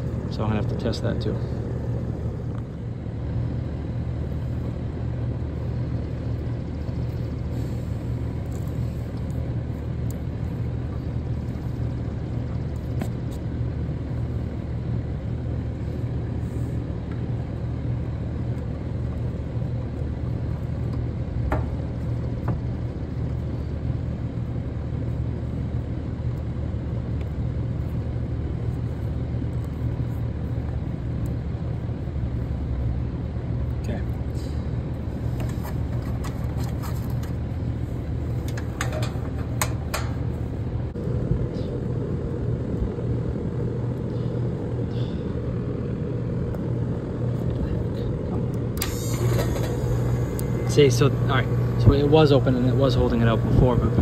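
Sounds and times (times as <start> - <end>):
air conditioner unit humming: 0.0 - 54.0.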